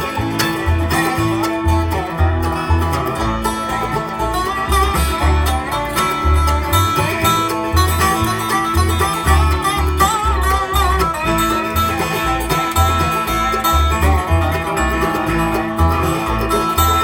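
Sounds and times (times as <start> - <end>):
bass notes: 0.0 - 17.0
bluegrass band playing: 0.0 - 17.0.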